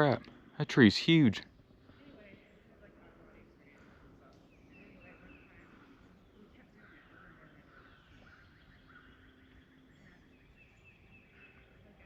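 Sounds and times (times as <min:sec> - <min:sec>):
faint bird chirps: 0:01.8 - 0:12.0.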